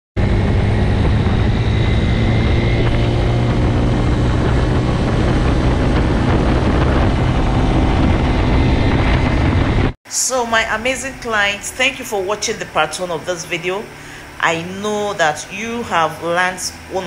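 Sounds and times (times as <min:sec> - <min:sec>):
road and wind noise: 0:00.2 - 0:17.0
vehicle engine hum: 0:00.2 - 0:17.0.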